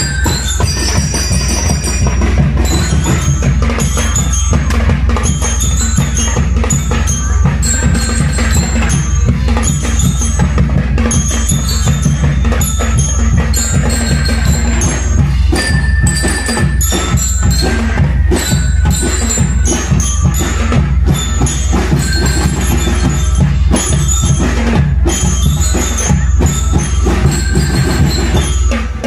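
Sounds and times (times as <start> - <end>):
bell lyres ringing: 0.0 - 29.0
rapid drum beat: 0.0 - 29.0.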